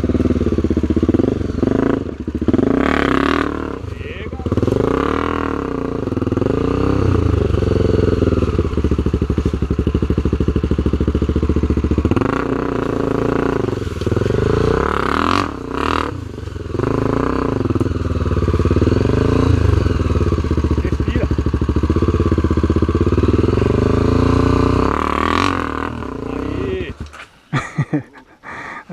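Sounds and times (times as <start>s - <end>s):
dirt bike engine revving: 0.0s - 28.2s.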